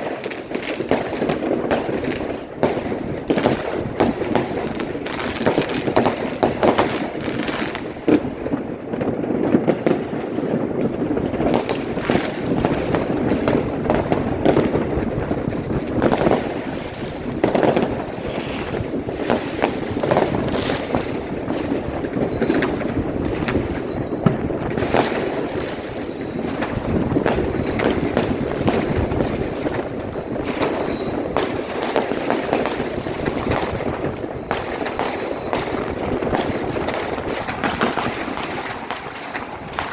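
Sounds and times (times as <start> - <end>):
firecrackers crackling: 0.0 - 39.9
fireworks bangs: 0.0 - 39.9.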